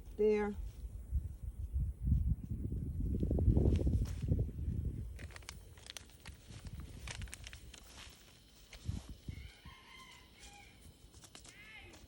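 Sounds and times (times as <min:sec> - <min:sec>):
hands rustling in soil: 0:00.0 - 0:12.0.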